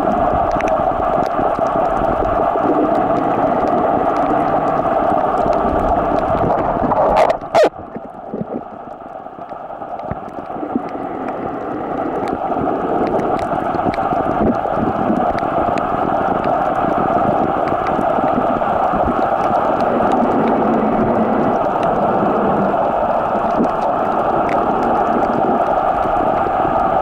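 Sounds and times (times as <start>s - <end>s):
faint crackling clicks: 0.0s - 27.0s
muffled underwater rushing: 0.0s - 27.0s.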